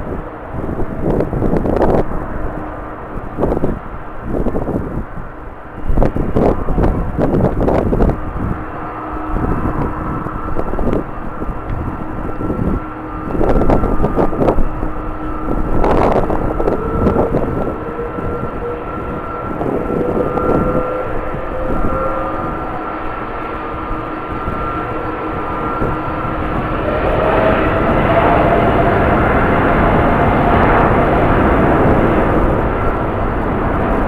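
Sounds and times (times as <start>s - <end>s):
jet engines whining: 0.0s - 34.0s
wind buffeting microphone: 0.0s - 34.0s.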